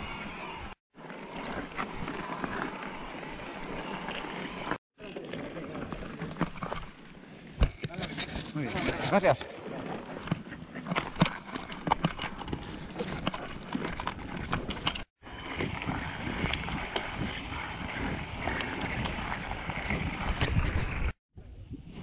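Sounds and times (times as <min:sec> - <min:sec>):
bike rolling on gravel: 0:01.0 - 0:21.2.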